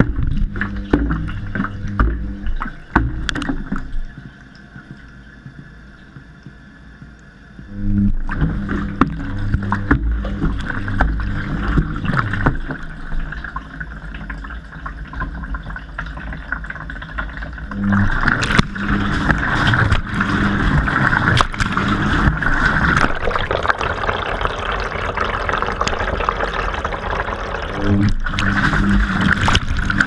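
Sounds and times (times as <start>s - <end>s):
water and laundry sloshing: 0.0s - 5.6s, 8.2s - 30.0s
low motor hum: 0.0s - 30.0s.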